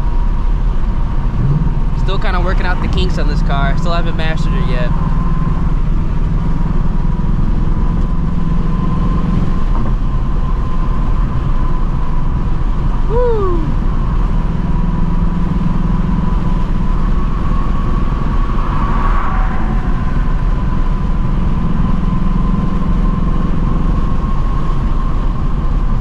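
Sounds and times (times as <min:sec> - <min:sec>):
car engine exhaust drone: 0:00.0 - 0:26.0
road and wind noise: 0:00.0 - 0:26.0.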